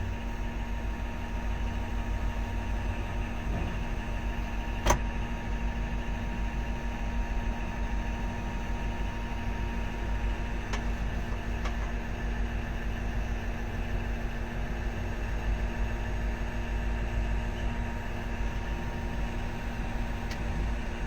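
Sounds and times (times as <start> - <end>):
excavator engine drone: 0.0 - 21.0.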